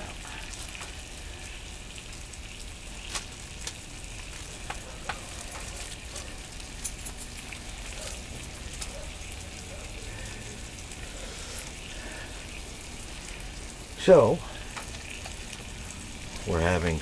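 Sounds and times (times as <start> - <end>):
beef sizzling in a pan: 0.0 - 17.0.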